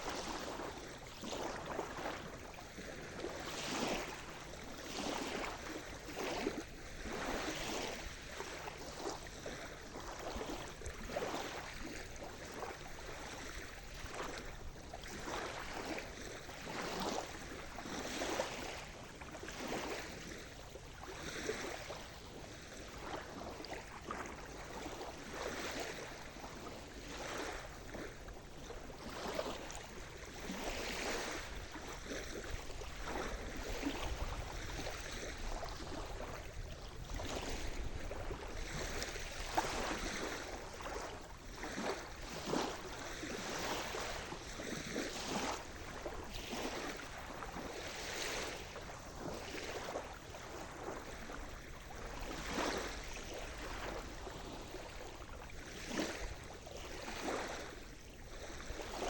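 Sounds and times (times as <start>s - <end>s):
small waves washing: 0.0s - 59.0s.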